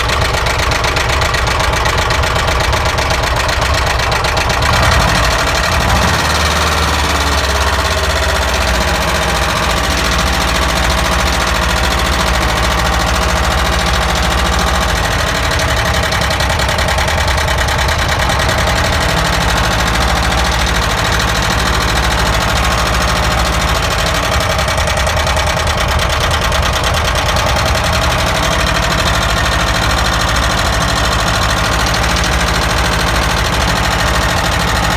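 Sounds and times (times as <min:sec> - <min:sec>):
car engine idling with knock: 0:00.0 - 0:34.9.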